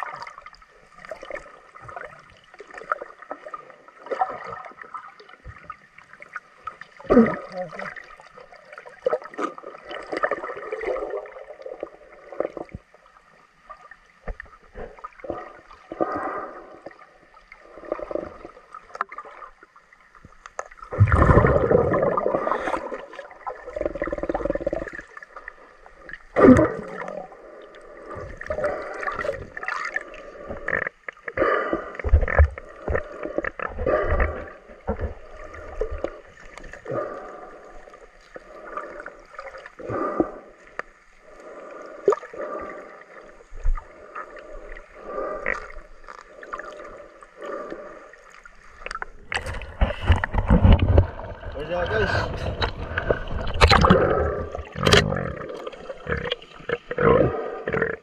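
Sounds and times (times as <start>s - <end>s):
muffled underwater sloshing: 0.0s - 58.0s.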